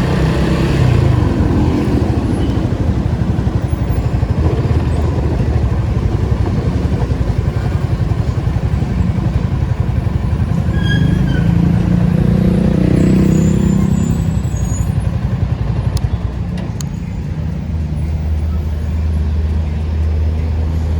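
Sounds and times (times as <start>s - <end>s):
car engine running: 0.0s - 18.6s.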